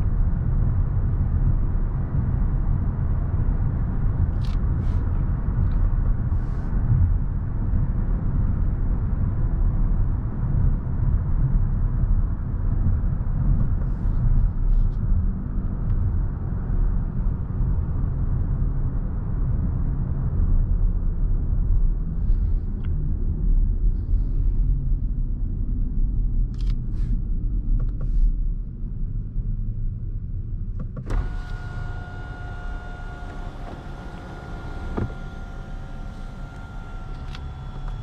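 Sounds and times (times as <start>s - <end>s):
road and tyre rumble: 0.0s - 38.0s.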